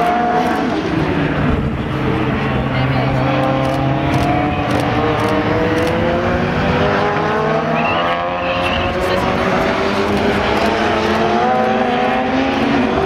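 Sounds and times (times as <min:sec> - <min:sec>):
racing car engines accelerating: 0:00.0 - 0:13.0.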